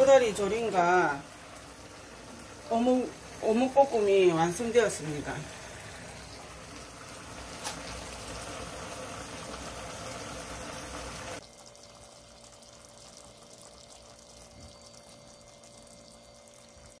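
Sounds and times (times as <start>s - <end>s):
sauce bubbling in a pot: 0.0s - 17.0s.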